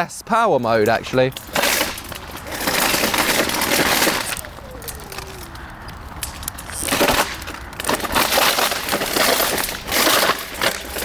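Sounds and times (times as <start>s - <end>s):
plastic scraping on tarmac: 0.7s - 11.0s.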